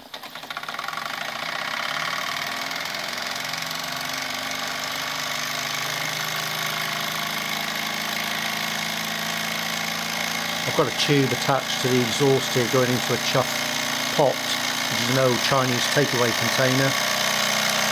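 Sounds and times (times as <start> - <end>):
toy steam engine chuffing: 0.0 - 17.9.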